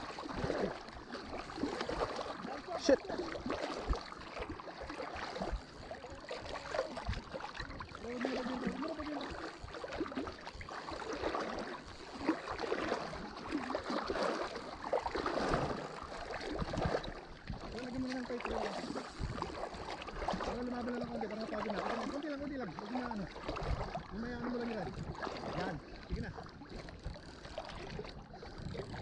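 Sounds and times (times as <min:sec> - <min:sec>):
sea water sloshing: 0:00.0 - 0:29.0.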